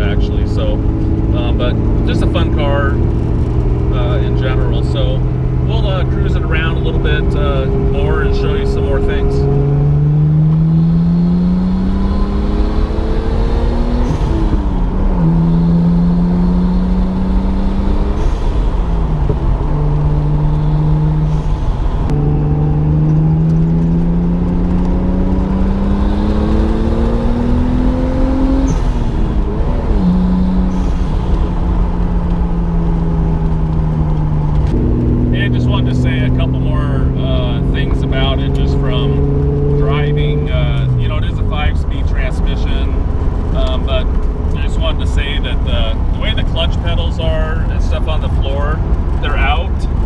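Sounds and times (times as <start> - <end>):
car engine accelerating: 0.0 - 50.0
wind and road noise: 0.0 - 50.0.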